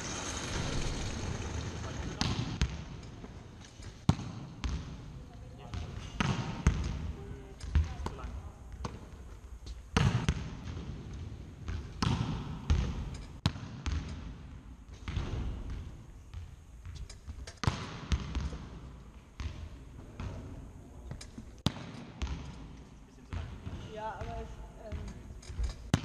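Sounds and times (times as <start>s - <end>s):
volleyballs hit and bouncing: 0.0s - 26.0s.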